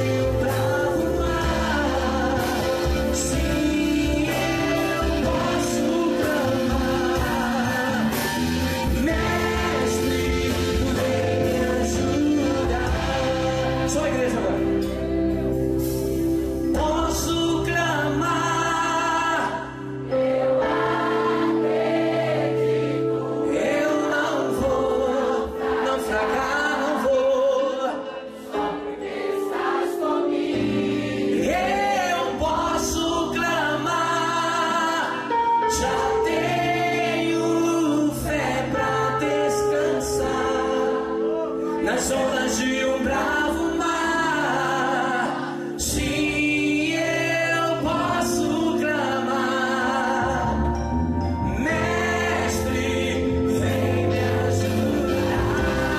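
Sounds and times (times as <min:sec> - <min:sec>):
band chords and bass: 0:00.0 - 0:26.4, 0:30.5 - 0:55.9
congregation singing: 0:00.0 - 0:55.9.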